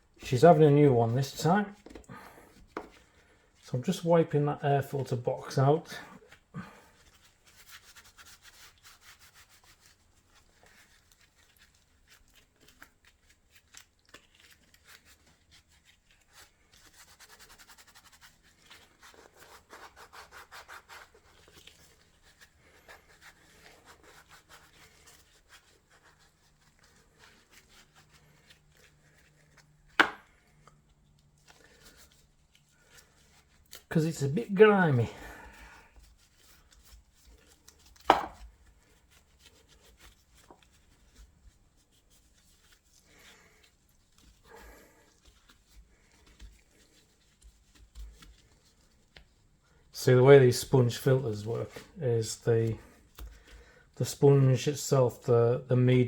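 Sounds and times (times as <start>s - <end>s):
rubbing and scrubbing by hand: 0.0s - 56.0s.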